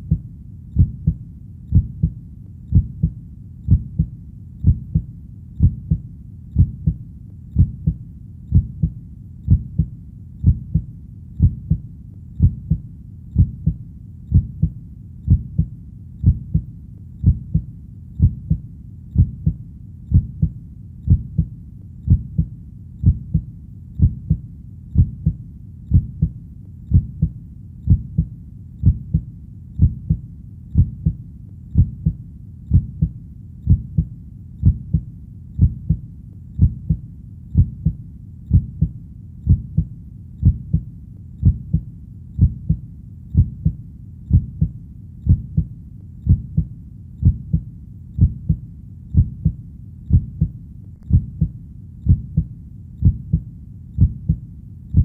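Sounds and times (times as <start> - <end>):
heartbeat: 0.0 - 55.0.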